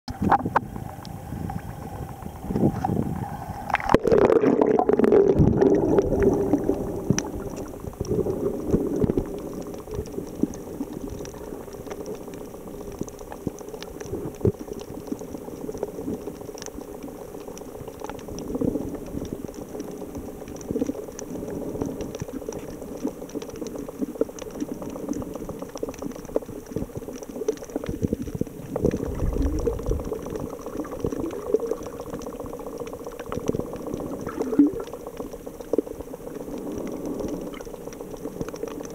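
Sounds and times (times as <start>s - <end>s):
muffled underwater bubbling: 0.1s - 38.9s
faint clicks: 6.0s - 38.9s.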